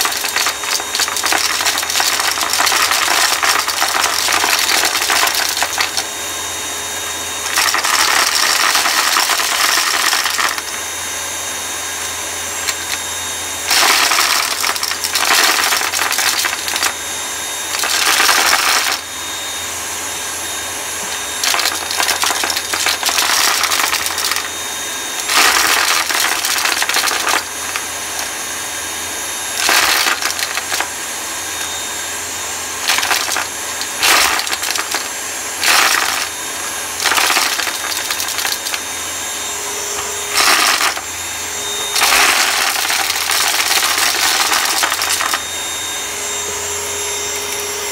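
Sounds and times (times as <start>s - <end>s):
debris rattling through vacuum: 0.0s - 19.7s, 20.6s - 47.9s
vacuum cleaner running: 0.0s - 47.9s.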